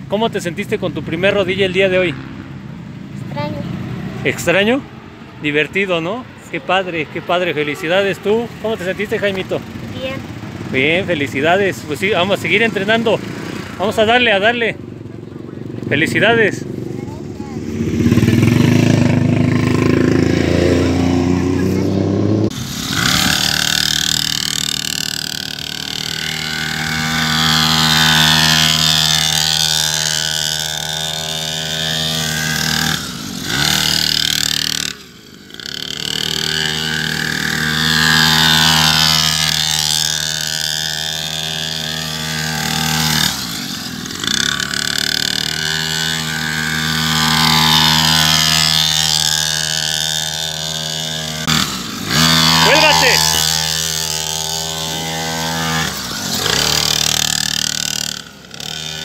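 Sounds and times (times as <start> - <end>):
mini dirt bike engine: 0.0 - 59.0.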